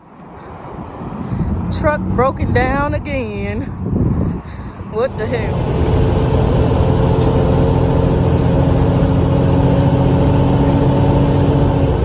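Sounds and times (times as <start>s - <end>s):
truck engine drone in cab: 0.7s - 12.0s.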